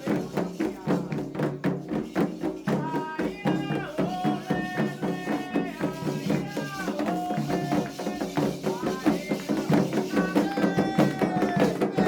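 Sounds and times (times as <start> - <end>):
hand drums beating fast rhythm: 0.0 - 12.0.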